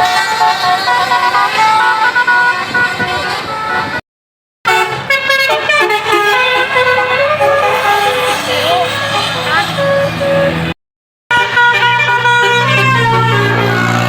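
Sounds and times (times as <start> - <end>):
bus horns playing melody: 0.0 - 4.0, 4.6 - 14.0.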